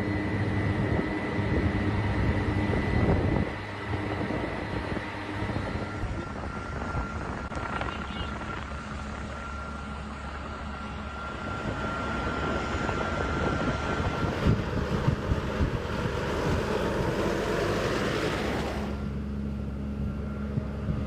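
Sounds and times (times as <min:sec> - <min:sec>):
jet engine rushing: 0:00.0 - 0:20.2
wind buffeting microphone: 0:00.1 - 0:19.2, 0:19.9 - 0:21.0.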